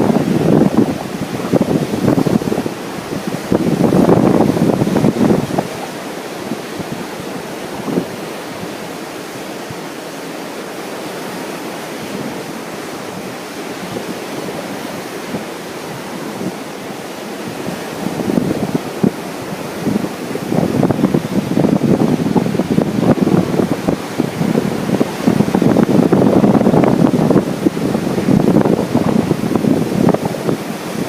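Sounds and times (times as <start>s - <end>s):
ocean surf washing: 0.0s - 31.0s
wind buffeting microphone: 0.0s - 31.0s.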